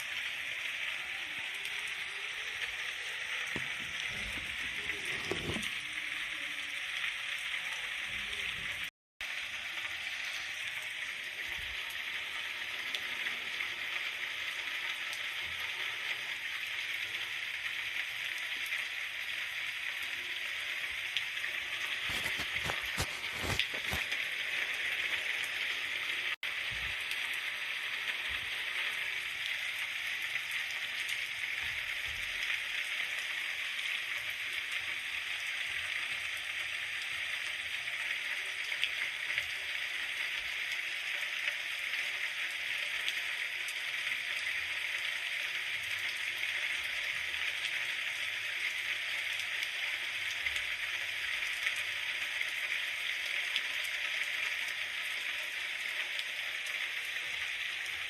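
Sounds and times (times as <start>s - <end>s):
steady rain falling: 7.7s - 58.0s.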